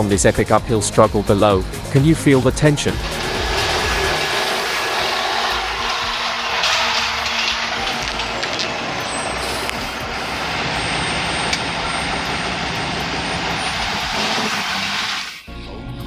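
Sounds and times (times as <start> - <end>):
heavy truck running: 0.0 - 15.5.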